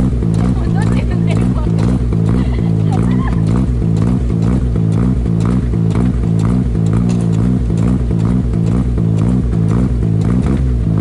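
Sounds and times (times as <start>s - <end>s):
car engine revving in blips: 0.0s - 11.0s.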